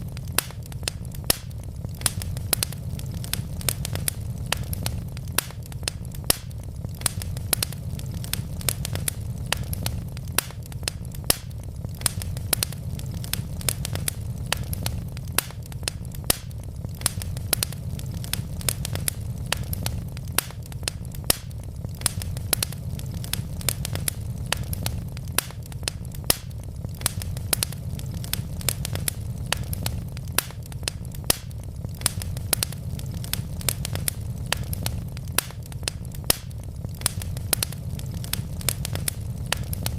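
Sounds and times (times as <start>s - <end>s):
wood logs crackling and popping: 0.0s - 39.9s.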